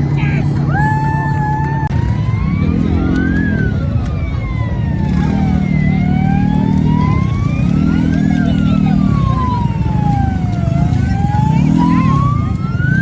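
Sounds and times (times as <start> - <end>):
heavy vehicle engine running: 0.0 - 13.0
vehicle siren wailing: 0.0 - 13.0.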